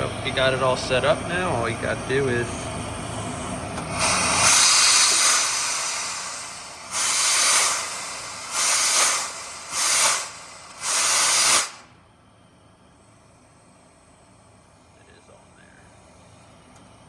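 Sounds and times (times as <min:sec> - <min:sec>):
air press hissing: 0:00.0 - 0:17.0.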